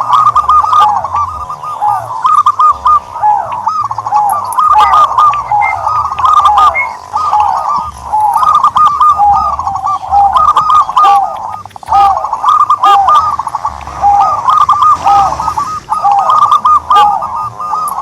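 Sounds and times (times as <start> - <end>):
turtledoves cooing: 0.0 - 18.0.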